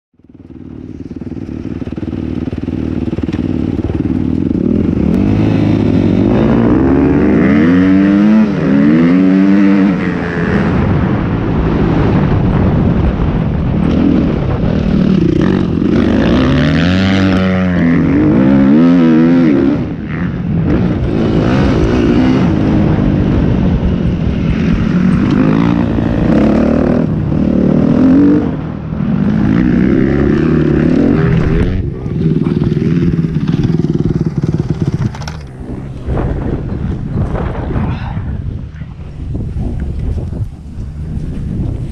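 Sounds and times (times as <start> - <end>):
motocross engine revving: 0.8 - 12.0, 13.8 - 37.4.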